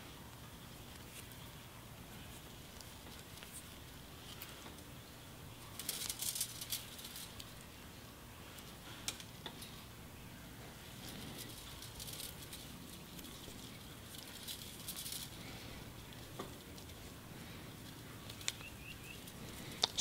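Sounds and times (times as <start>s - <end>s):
foliage and wire rustling: 0.0s - 20.0s.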